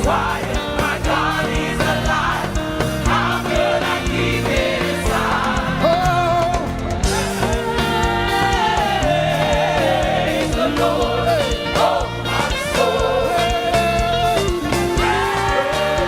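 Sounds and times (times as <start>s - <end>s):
band playing gospel music: 0.0s - 16.0s
voices singing together: 0.0s - 16.0s.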